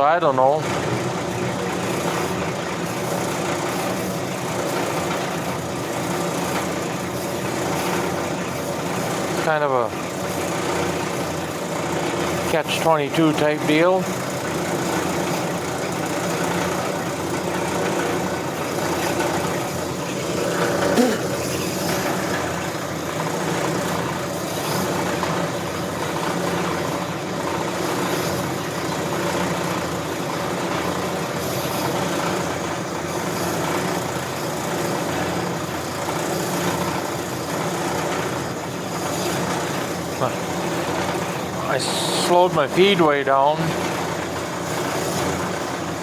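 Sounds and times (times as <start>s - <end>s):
brake lathe cutting steel: 0.0s - 46.0s.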